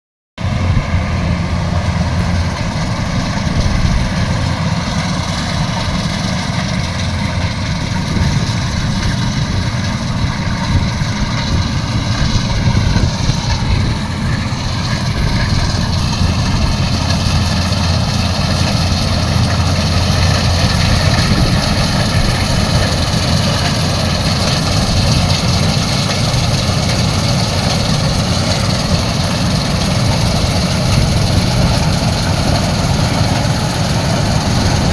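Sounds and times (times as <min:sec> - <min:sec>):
diesel engine running: 0:00.4 - 0:34.9.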